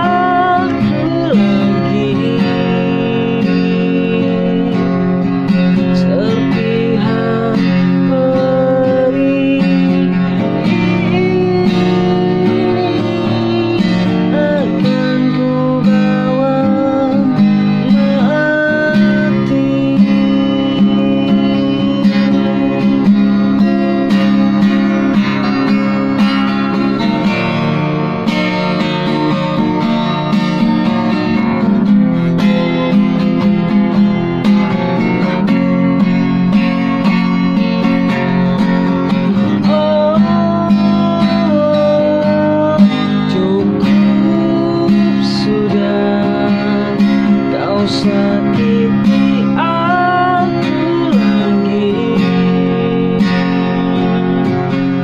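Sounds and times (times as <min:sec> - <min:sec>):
acoustic guitar: 0:00.0 - 0:55.0.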